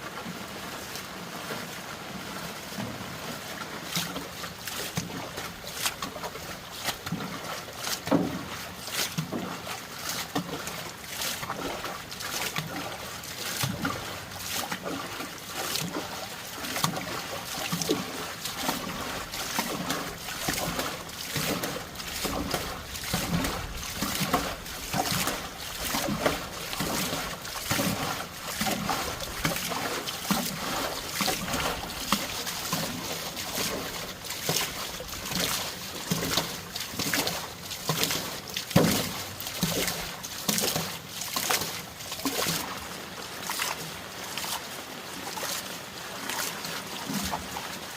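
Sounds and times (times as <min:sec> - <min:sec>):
water splashing and trickling: 0:00.0 - 0:47.9.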